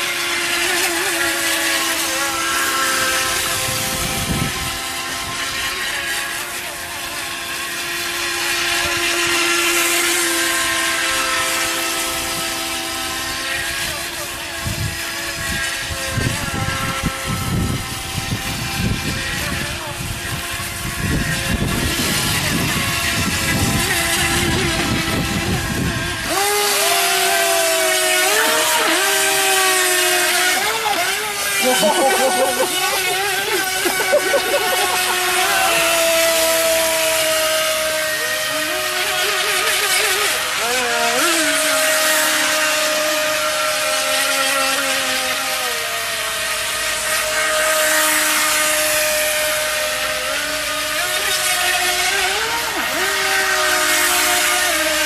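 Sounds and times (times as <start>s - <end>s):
electric motor high whine: 0.0s - 55.0s.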